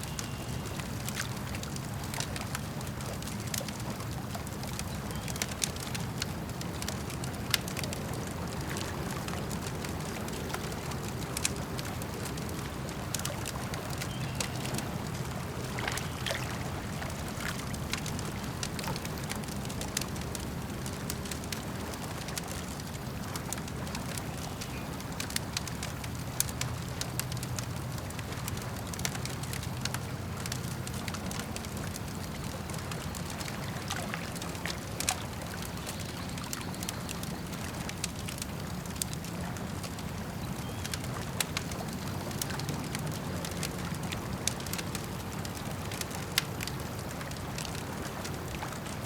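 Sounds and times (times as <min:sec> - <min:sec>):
lake water lapping: 0:00.0 - 0:49.0
campfire crackling and popping: 0:00.1 - 0:49.0.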